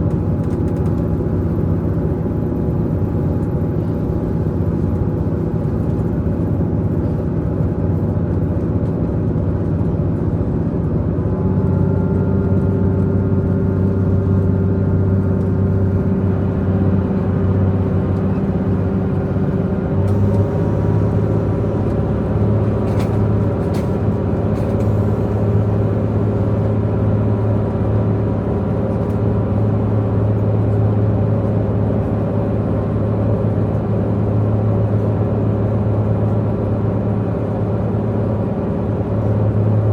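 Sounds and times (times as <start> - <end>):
train diesel engine drone: 0.0 - 39.9.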